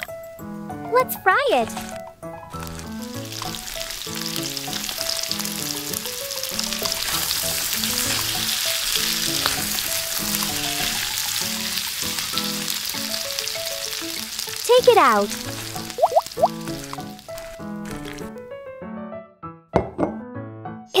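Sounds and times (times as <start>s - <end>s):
light background melody: 0.0s - 21.0s
oil sizzling and crackling: 1.6s - 18.4s.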